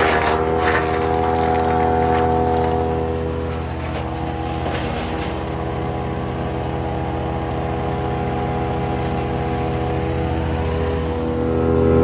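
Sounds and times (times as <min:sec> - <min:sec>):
wood chipper engine running: 0:00.0 - 0:12.0.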